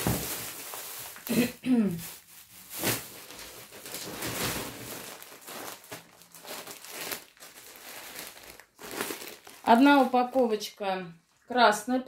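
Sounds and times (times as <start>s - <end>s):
plastic wrapping crinkling: 0.0s - 11.7s.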